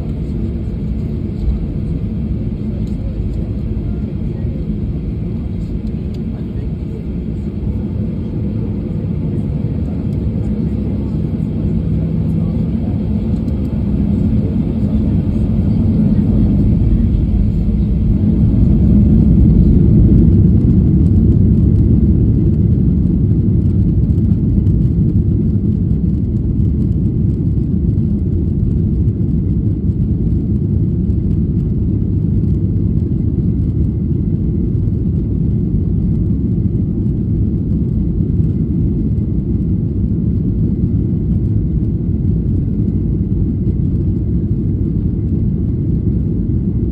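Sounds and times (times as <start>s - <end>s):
jet engines at takeoff thrust: 0.0s - 46.9s
wheels rumbling on runway: 0.0s - 46.9s.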